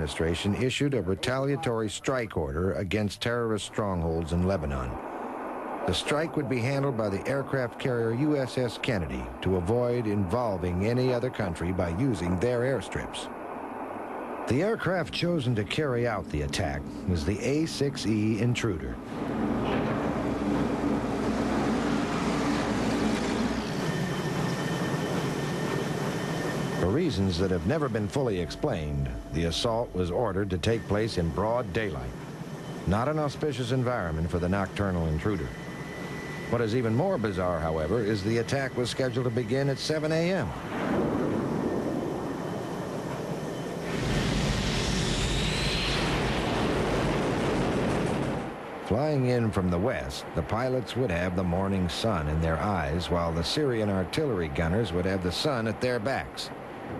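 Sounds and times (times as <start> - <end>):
engine and machinery noise: 0.0 - 56.9
faint high whine: 0.0 - 56.9
low drone: 2.4 - 56.9.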